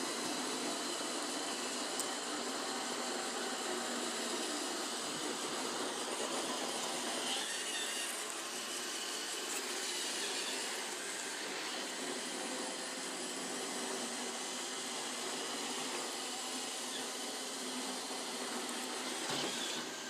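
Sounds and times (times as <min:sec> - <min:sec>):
robot vacuum whirring: 0:00.0 - 0:20.0.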